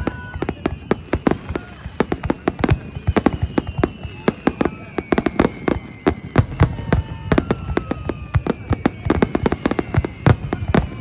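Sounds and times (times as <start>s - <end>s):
fireworks booming and cracking: 0.0s - 11.0s.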